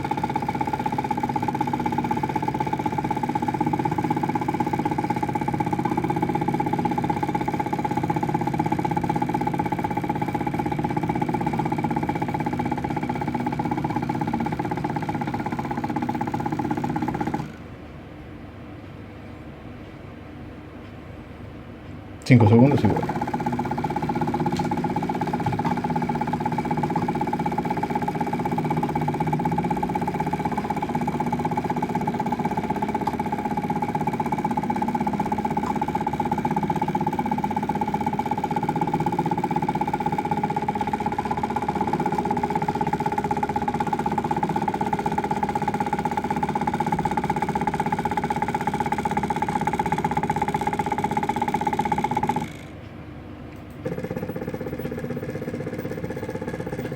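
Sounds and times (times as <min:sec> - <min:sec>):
motor running with steady whine: 0:00.0 - 0:17.8, 0:22.2 - 0:53.0, 0:53.6 - 0:56.9.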